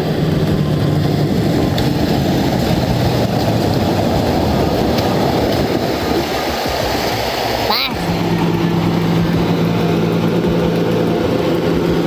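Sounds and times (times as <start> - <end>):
heavy truck engine rumbling: 0.0 - 12.0.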